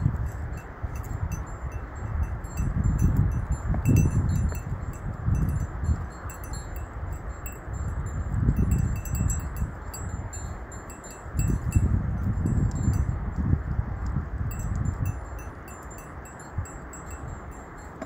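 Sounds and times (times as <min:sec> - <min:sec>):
wind buffeting microphone: 0:00.0 - 0:18.0
chimes tinkling: 0:00.2 - 0:13.1, 0:14.5 - 0:18.0.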